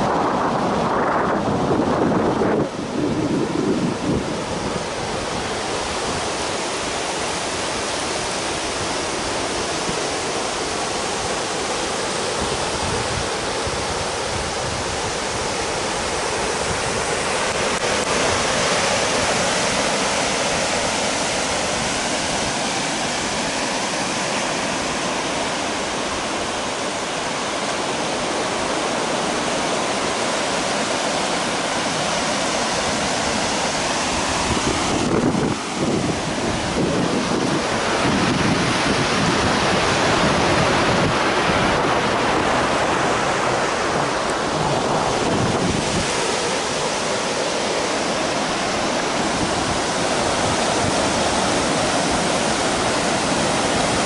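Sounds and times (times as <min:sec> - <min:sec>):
surf breaking on a beach: 0:00.0 - 0:54.0.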